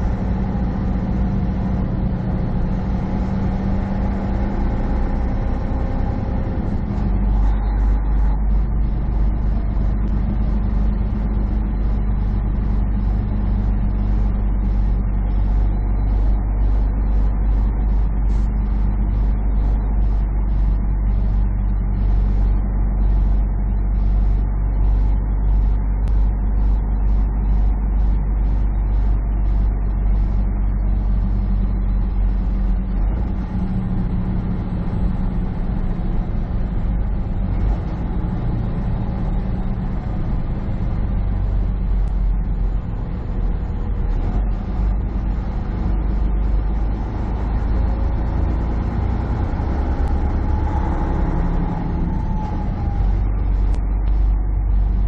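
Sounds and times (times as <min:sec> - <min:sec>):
road noise: 0:00.0 - 0:55.0
truck diesel engine from cab: 0:00.0 - 0:55.0.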